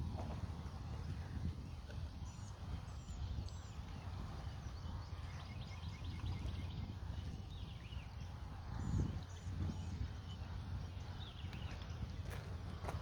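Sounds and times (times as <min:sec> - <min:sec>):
wind buffeting microphone: 0:00.0 - 0:13.0
small birds chirping: 0:01.0 - 0:13.0.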